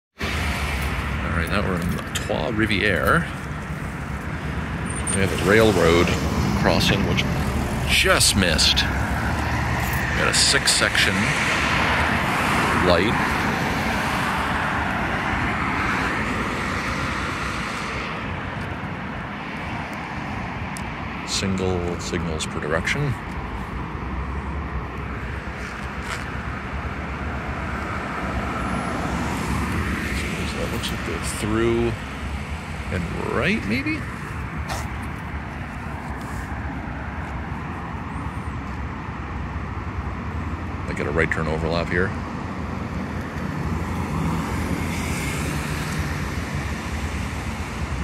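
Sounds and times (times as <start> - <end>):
street traffic rumble: 0.1 - 48.0
cars driving by: 0.2 - 48.0.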